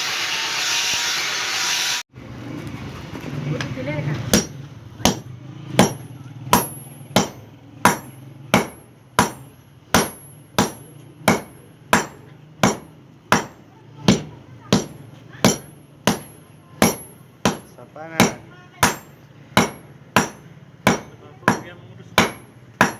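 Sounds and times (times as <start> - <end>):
hammer striking iron on anvil: 4.3 - 22.9.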